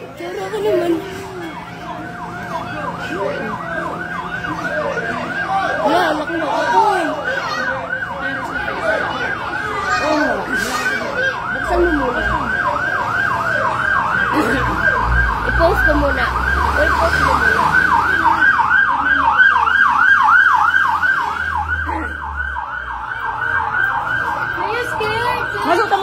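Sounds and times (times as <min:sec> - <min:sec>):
fire truck siren yelp: 0:00.0 - 0:26.0
truck engine rumble: 0:00.0 - 0:26.0.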